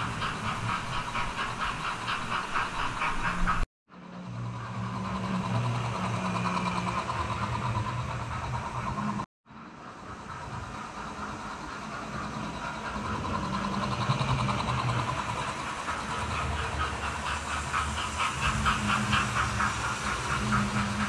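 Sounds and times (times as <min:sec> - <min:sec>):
model train motor running: 0:00.0 - 0:21.0
train wheels clicking over track: 0:00.0 - 0:21.0.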